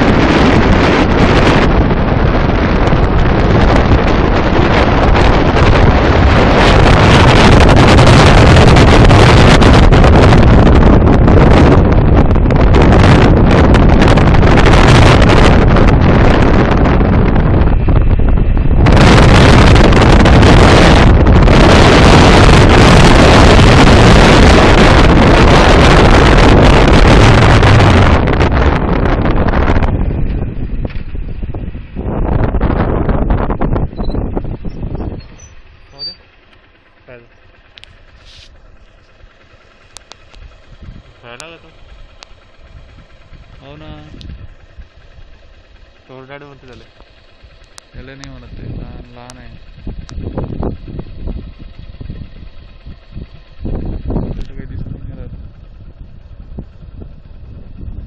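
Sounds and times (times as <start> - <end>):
road and engine rumble: 0.0 - 58.0
wind buffeting microphone: 0.0 - 58.0.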